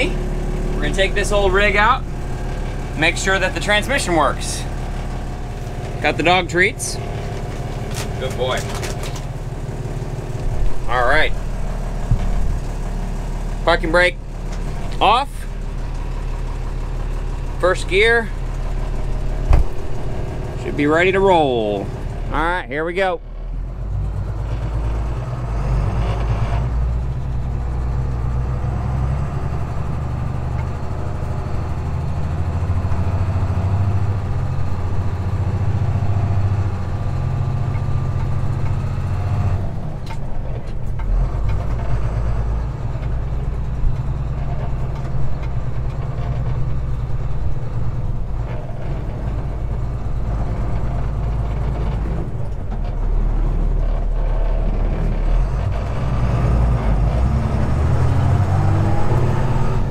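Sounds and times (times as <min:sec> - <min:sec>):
diesel truck engine pulling away: 0:00.0 - 0:59.9.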